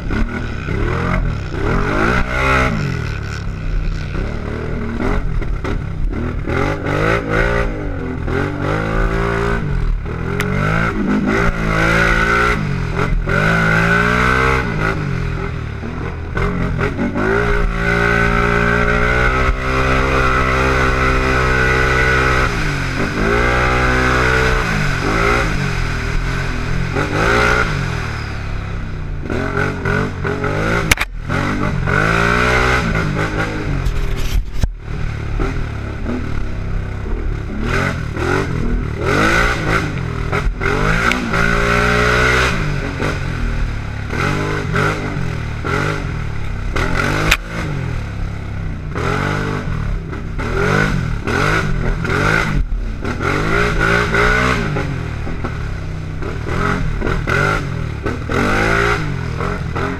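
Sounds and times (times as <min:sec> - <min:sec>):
quad engine revving hard: 0:00.0 - 0:28.6, 0:29.2 - 0:59.9.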